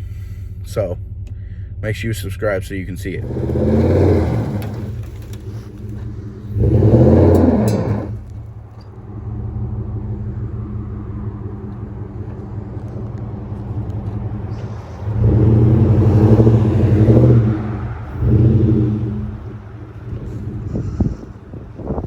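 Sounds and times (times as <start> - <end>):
car engine running and revving: 0.0 - 22.0.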